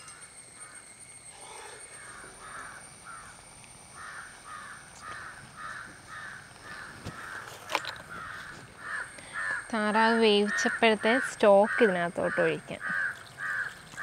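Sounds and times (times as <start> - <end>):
crows cawing: 0.0 - 14.0.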